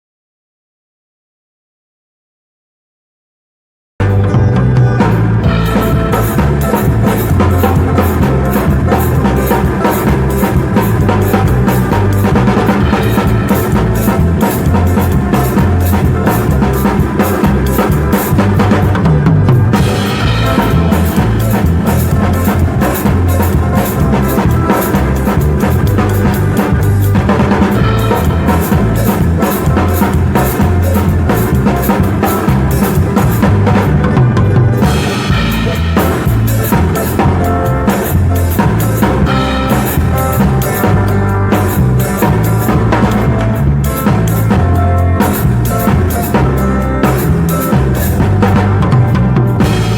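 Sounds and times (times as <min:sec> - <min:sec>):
bass guitar: 0:04.0 - 0:49.9
drum kit groove: 0:04.0 - 0:49.9
electric guitar: 0:04.0 - 0:49.9.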